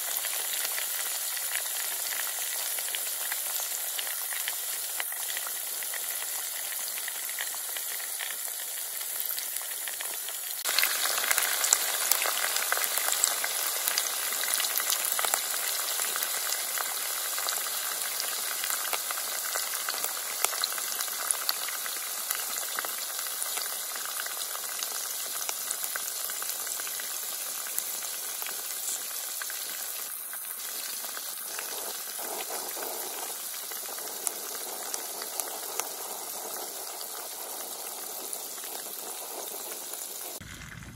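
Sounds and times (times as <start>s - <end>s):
chicken sizzling in hot oil: 0.0s - 40.9s.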